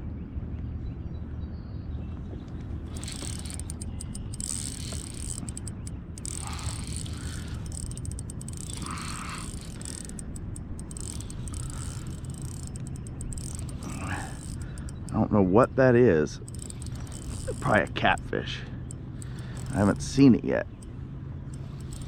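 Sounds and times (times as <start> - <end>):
fishing reel whirring and clicking: 2.8 - 22.0.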